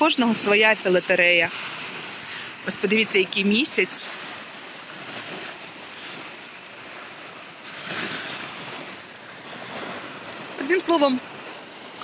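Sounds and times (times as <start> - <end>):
waves breaking on sand: 0.0 - 12.0.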